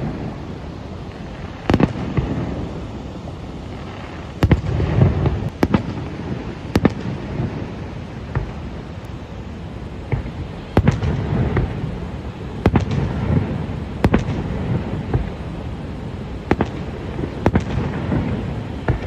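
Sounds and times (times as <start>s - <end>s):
fireworks bangs: 0.0s - 19.0s
steady low rumble: 0.0s - 19.0s.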